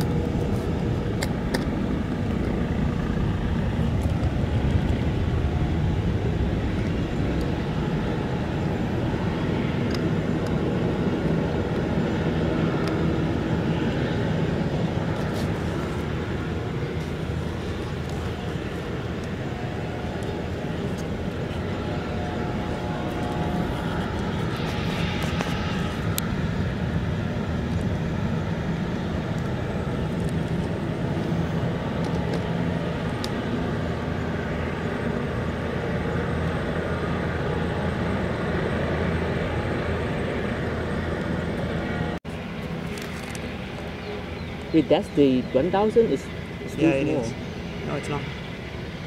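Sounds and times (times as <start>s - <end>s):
distant jet engines rumbling: 0.0s - 49.0s.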